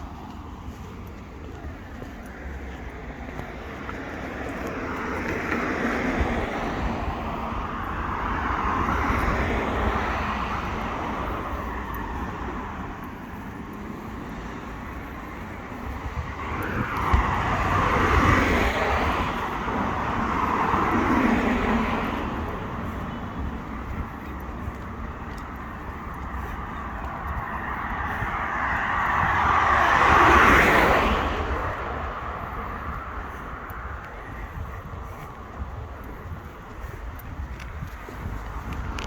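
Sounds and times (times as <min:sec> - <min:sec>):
cars passing: 0:00.0 - 0:39.0
low traffic rumble: 0:00.0 - 0:39.0.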